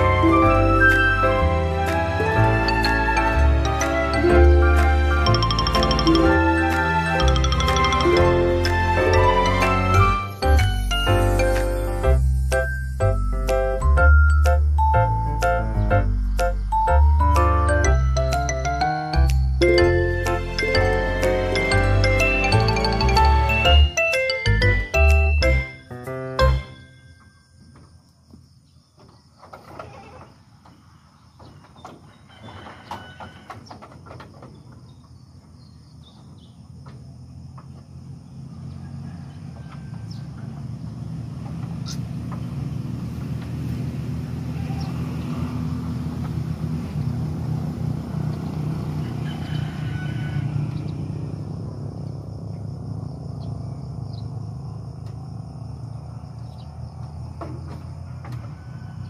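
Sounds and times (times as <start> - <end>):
low engine rumble: 0.0 - 25.6, 34.5 - 59.0.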